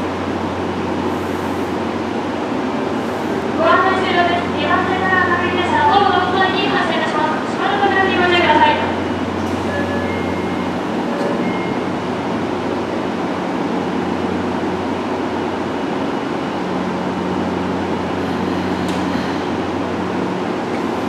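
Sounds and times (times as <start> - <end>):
train equipment humming: 0.0 - 21.0.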